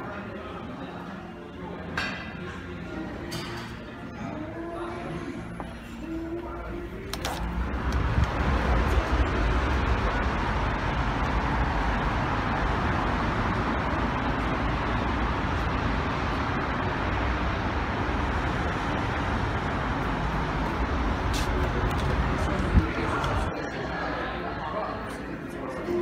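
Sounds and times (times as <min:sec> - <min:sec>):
busy street traffic rumble: 0:00.0 - 0:26.0.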